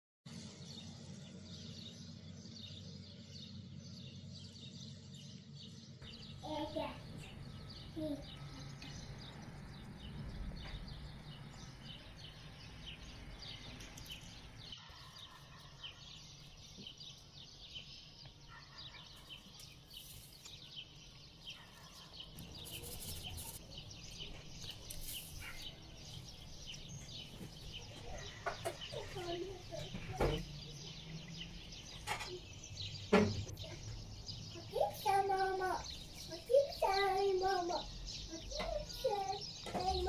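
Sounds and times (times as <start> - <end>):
small birds chirping: 0.3 - 40.0.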